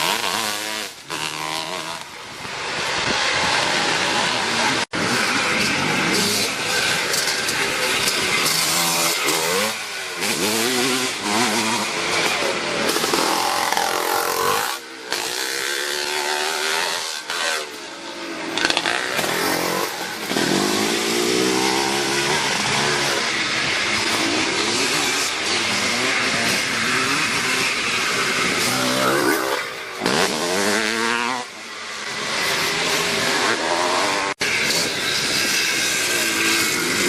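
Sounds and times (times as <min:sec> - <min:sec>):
motocross motorcycles revving: 0:00.0 - 0:37.0.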